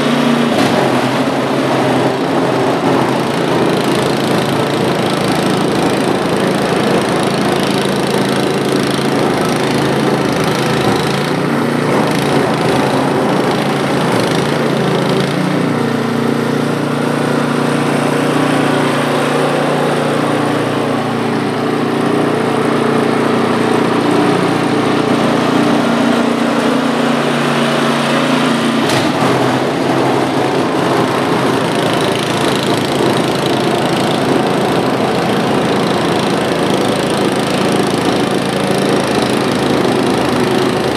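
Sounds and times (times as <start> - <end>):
auger throwing snow: 0.0 - 40.9
snowblower engine drone: 0.0 - 40.9.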